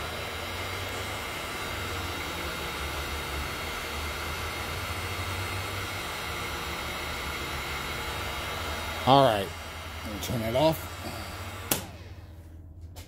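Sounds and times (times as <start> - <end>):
heat gun fan blowing: 0.0 - 13.0.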